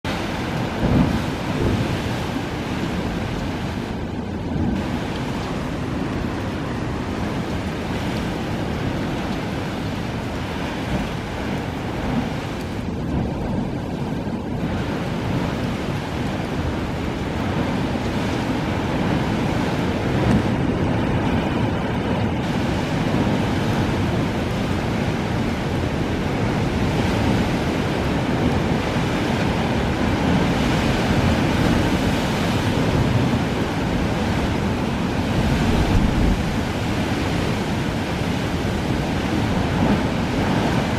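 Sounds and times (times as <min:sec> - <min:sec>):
sea surf rushing through rocks: 0:00.0 - 0:40.9.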